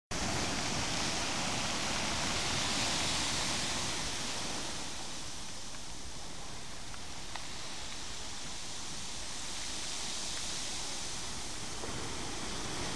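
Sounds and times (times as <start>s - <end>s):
sea waves breaking: 0.1s - 12.9s.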